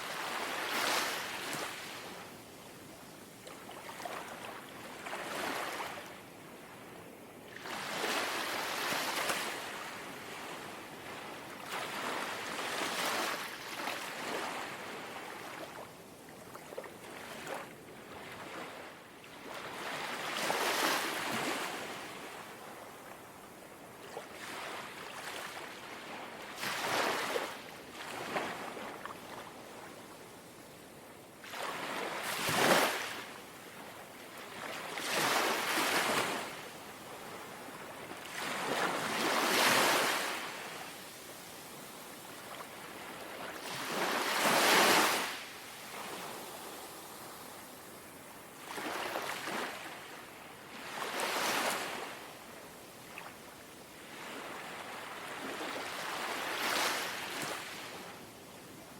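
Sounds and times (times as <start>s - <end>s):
gentle sea waves lapping on shore: 0.0s - 58.9s.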